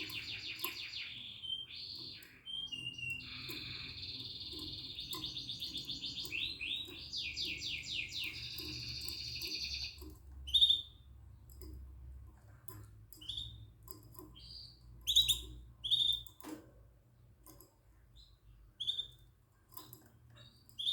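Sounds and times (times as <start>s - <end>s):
canary song trill: 0.0s - 16.6s, 17.2s - 20.9s.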